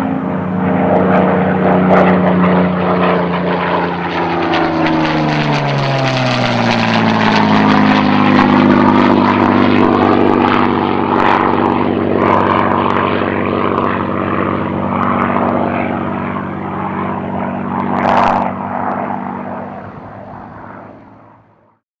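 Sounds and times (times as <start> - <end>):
aircraft engine and propeller: 0.0 - 21.8.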